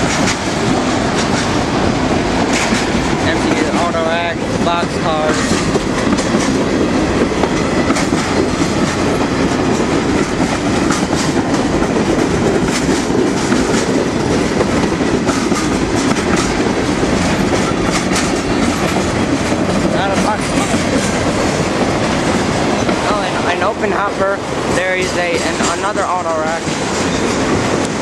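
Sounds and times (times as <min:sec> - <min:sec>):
freight train wheels rumbling: 0:00.0 - 0:28.0
wheel clacks over rail joints: 0:00.0 - 0:28.0.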